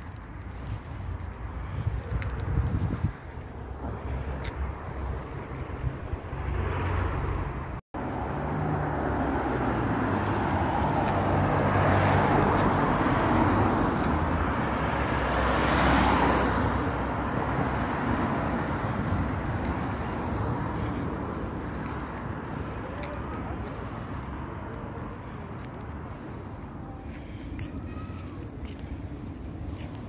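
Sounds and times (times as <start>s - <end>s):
cars passing: 0.0s - 30.0s
low traffic rumble: 0.0s - 30.0s.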